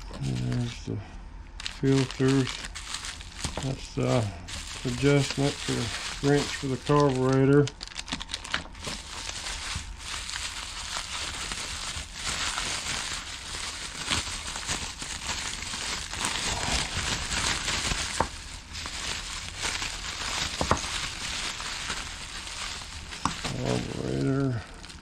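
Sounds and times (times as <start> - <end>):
plastic packaging crinkling: 0.0 - 0.9, 1.6 - 25.0.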